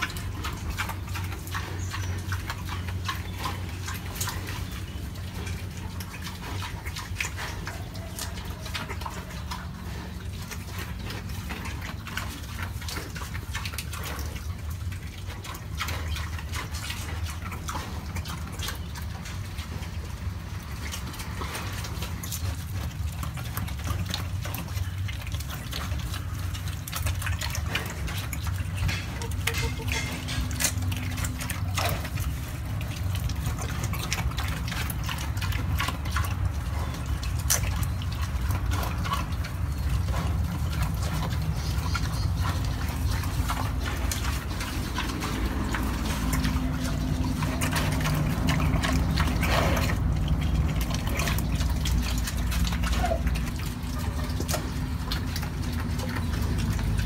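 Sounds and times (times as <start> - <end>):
pig chewing and crunching: 0.0 - 57.0.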